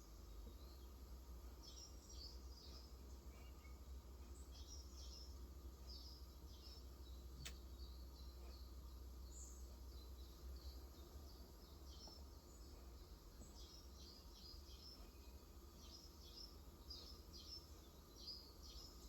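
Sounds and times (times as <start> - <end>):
low steady hum: 0.0 - 19.0
small birds twittering: 0.0 - 19.0.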